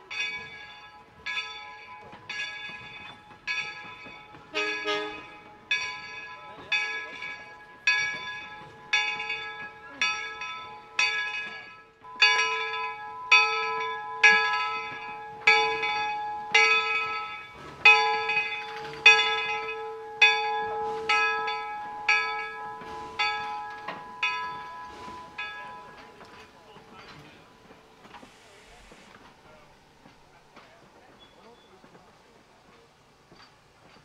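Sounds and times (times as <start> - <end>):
steam locomotive bell ringing: 0.0 - 34.0.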